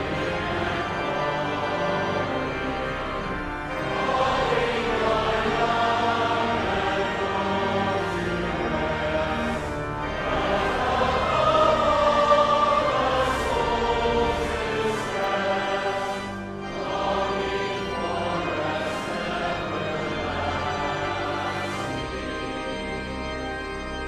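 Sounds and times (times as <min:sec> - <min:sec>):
choir singing a hymn: 0:00.0 - 0:23.9
instrumental accompaniment: 0:00.0 - 0:24.0.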